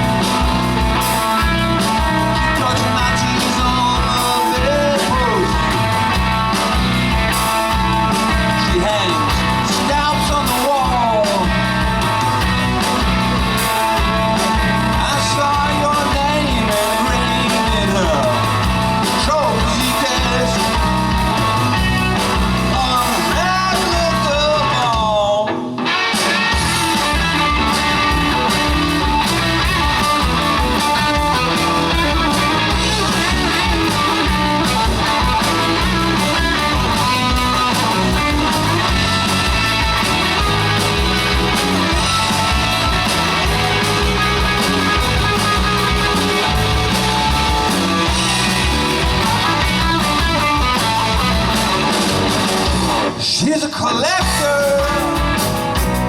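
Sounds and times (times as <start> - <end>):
drum beat: 0.0 - 25.3, 25.9 - 53.2, 54.2 - 56.0
electric guitar: 0.0 - 56.0.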